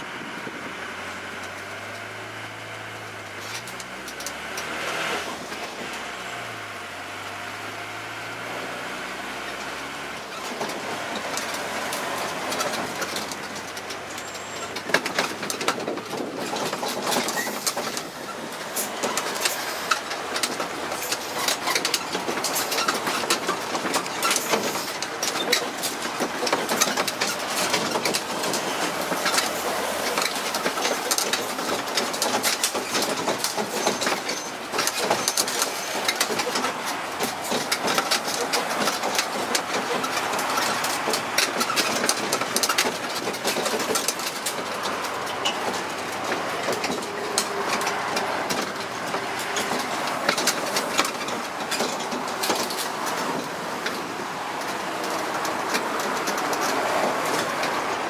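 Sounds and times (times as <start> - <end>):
carriages clattering and rattling: 0.0 - 58.0
train engine: 0.0 - 58.0.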